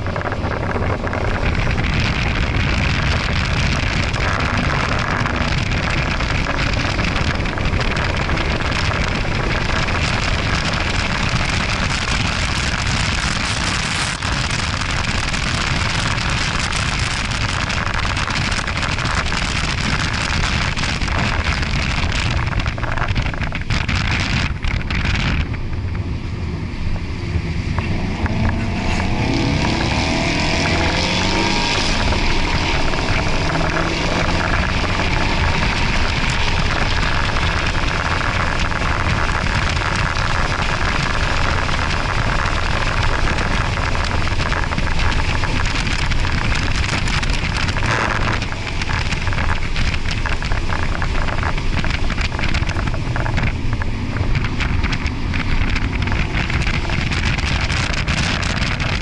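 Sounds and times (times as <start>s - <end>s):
tyre noise: 0.0s - 26.1s, 27.1s - 59.0s
car engine under way: 0.0s - 59.0s
wind noise: 0.0s - 59.0s.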